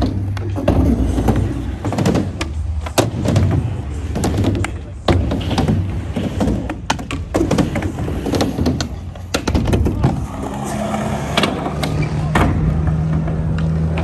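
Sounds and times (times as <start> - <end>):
skateboard wheels rumbling: 0.0 - 14.0
skateboards knocking on coping: 0.0 - 14.0.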